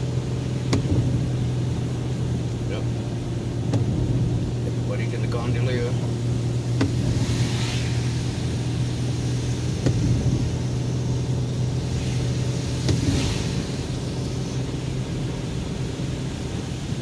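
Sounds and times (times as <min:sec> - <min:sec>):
car driving on wet road: 0:00.0 - 0:17.0
windshield wipers clicking and swishing: 0:00.4 - 0:17.0.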